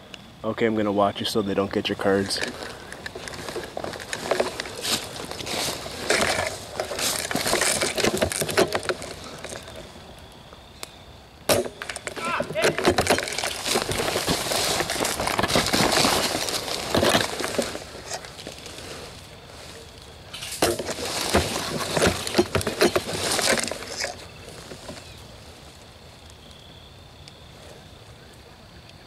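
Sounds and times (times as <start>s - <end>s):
dry grass and leaves rustling: 1.1s - 29.0s.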